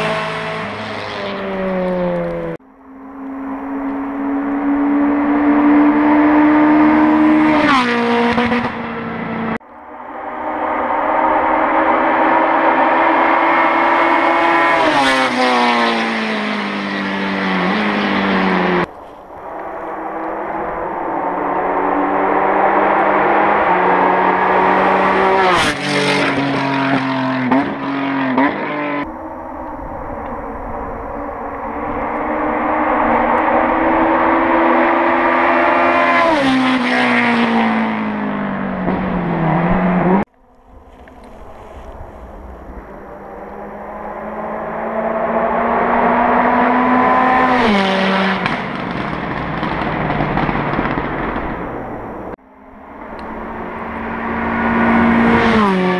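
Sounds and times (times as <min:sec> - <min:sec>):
car engine passing at speed: 0:00.0 - 0:55.9.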